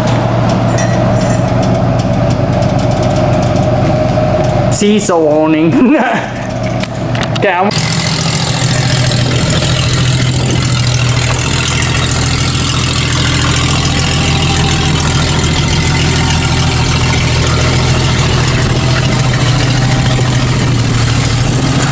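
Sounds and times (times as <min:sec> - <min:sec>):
car engine running steadily: 0:00.0 - 0:21.9.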